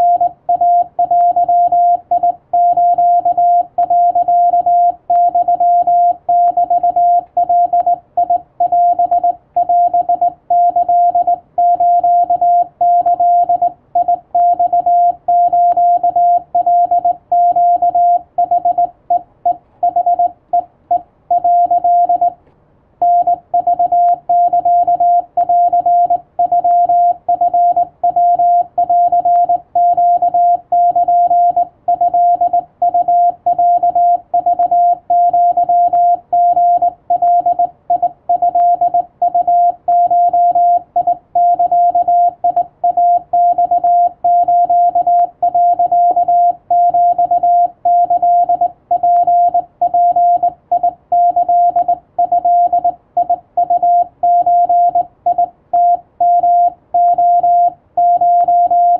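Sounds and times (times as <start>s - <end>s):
morse code tone: 0.0s - 22.4s, 23.0s - 58.9s.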